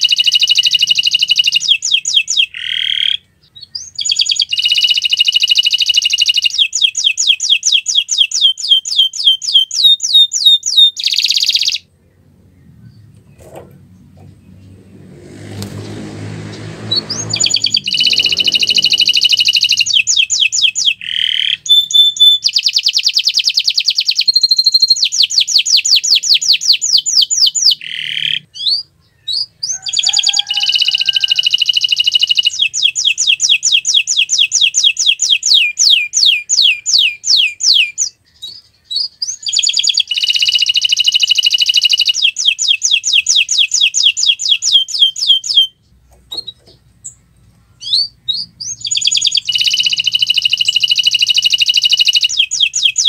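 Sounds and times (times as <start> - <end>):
canary singing trills: 0.0 - 15.0, 15.8 - 53.0.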